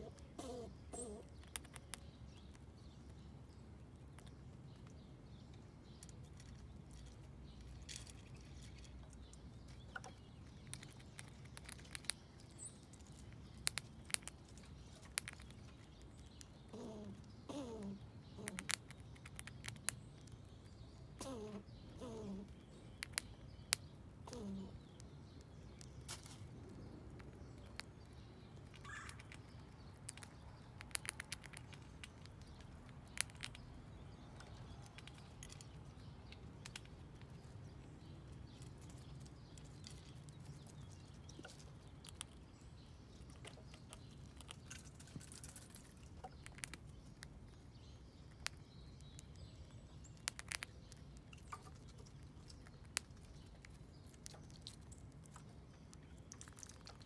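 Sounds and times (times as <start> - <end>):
low background hum: 0.0 - 57.0
squirrel crunching corn kernels: 0.0 - 57.0.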